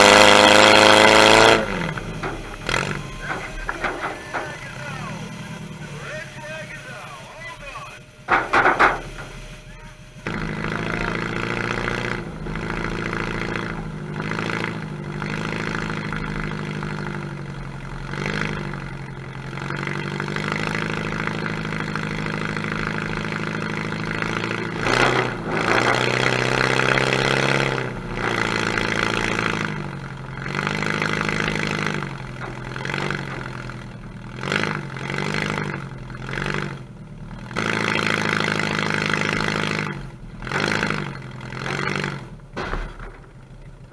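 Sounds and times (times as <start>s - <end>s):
car engine starting and revving: 0.0s - 43.9s.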